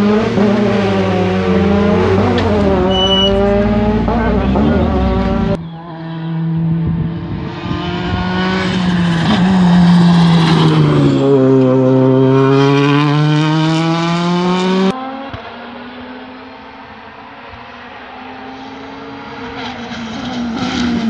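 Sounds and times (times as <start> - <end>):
rally car engine accelerating past: 0.0 - 21.0.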